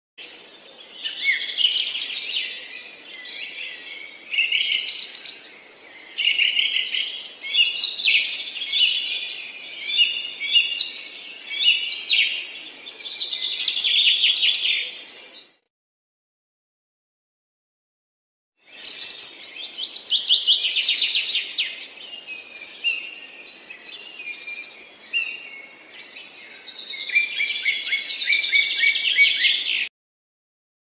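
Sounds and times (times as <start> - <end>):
songbirds chirping: 0.2 - 15.7, 18.6 - 29.9.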